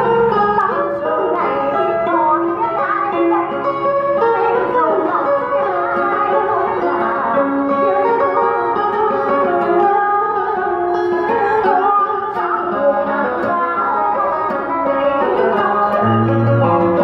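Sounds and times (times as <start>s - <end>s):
plucked string accompaniment: 0.0s - 17.0s
woman singing into a microphone: 0.0s - 17.0s.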